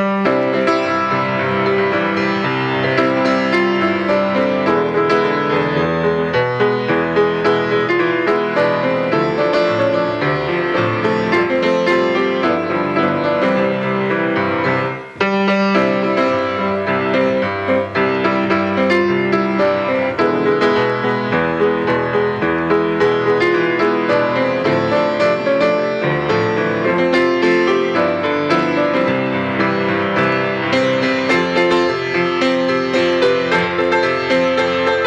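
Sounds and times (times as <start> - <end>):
piano playing church music: 0.0 - 35.0.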